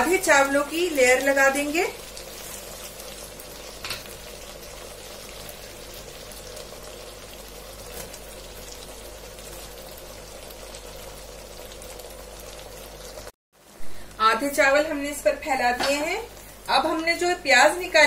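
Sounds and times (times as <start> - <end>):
gravy sizzling and bubbling in pot: 0.0 - 18.0.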